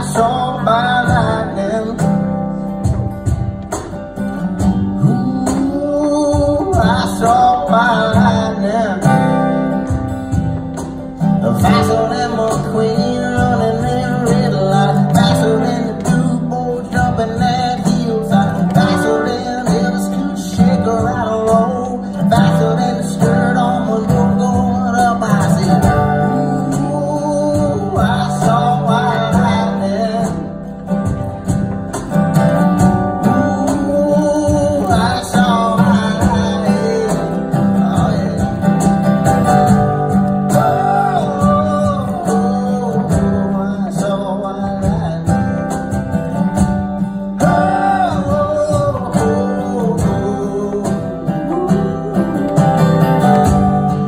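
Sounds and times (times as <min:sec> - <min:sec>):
acoustic guitars strummed: 0:00.0 - 0:54.0.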